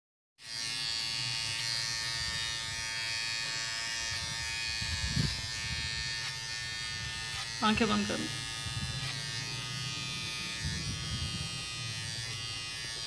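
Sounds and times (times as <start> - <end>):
electric hair trimmer buzzing: 0.4 - 13.0.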